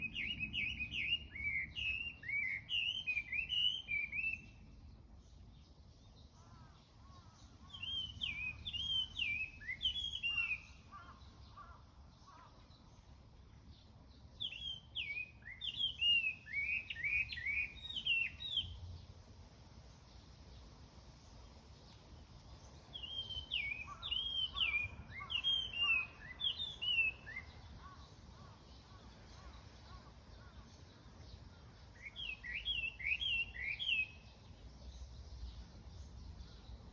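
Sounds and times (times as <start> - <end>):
faint lower bird calls: 0.0 - 4.8, 6.2 - 13.1, 14.4 - 18.8, 21.3 - 36.9
songbird singing: 0.0 - 36.9.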